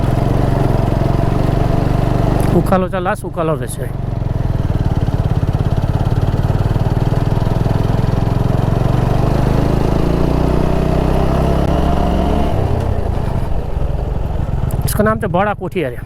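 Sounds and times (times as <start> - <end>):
motorcycle engine climbing: 0.0 - 16.0.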